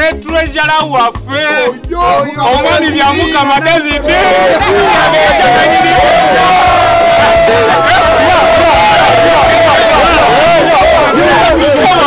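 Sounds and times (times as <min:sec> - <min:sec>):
music with long held note: 0:01.5 - 0:12.0
crowd cheering and shouting: 0:02.1 - 0:12.0.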